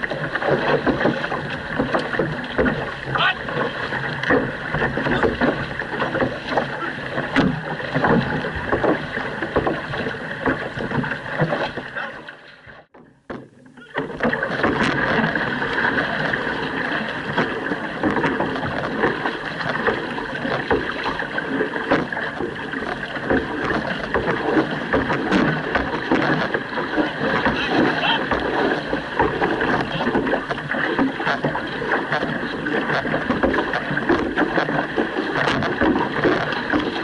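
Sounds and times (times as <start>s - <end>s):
water rushing and splashing: 0.0s - 37.0s.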